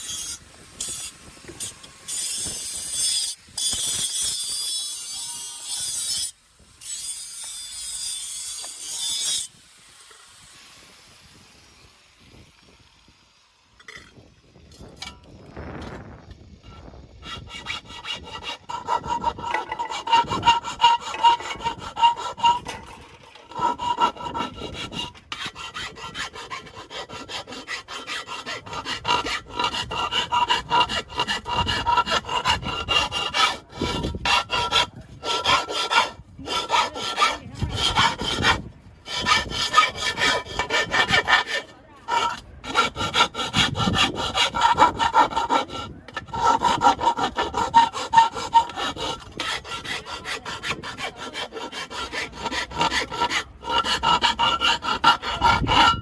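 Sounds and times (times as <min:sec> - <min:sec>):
hand saw cutting wood: 0:00.0 - 0:10.9, 0:16.6 - 0:56.0.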